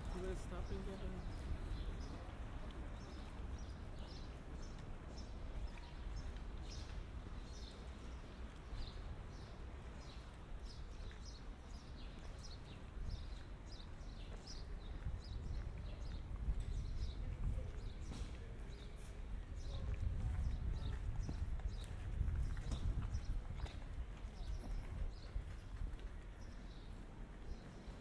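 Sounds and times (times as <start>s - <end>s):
low city rumble: 0.0s - 28.0s.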